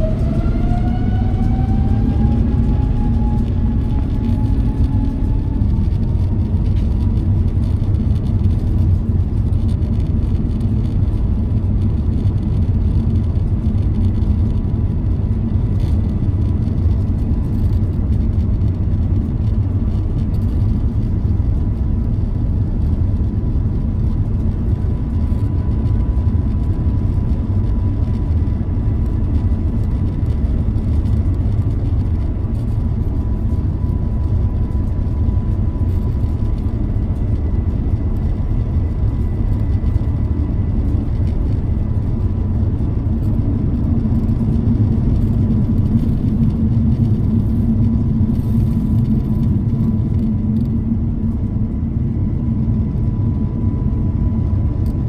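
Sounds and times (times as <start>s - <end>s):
airplane cabin engine rumble: 0.0s - 55.0s
low hum: 0.0s - 55.0s.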